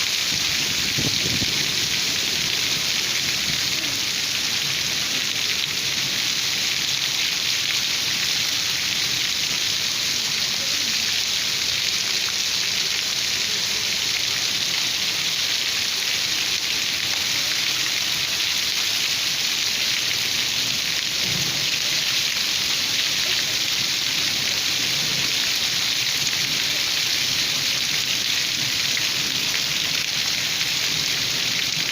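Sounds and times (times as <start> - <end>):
heavy rain on hard surfaces: 0.0 - 31.9.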